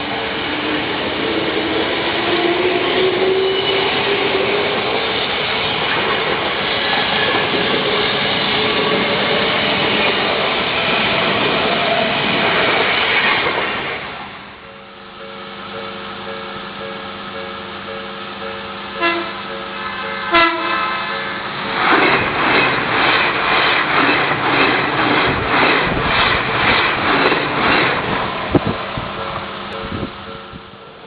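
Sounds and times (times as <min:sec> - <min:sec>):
electric train wheel noise: 0:00.0 - 0:31.0
train motor whine: 0:00.0 - 0:31.0.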